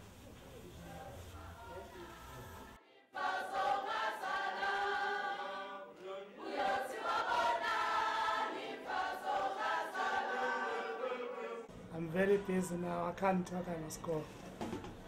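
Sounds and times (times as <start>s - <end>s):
crowd singing unaccompanied: 0.5s - 12.7s.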